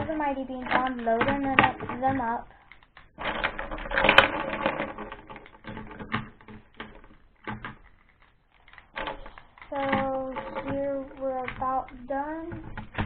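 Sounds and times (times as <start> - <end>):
plastic toys clicking on track: 0.0 - 13.0.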